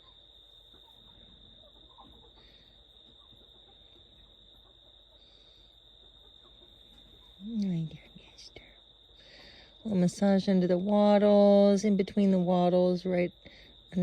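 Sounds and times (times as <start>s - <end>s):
faint cricket chorus: 0.0s - 14.0s.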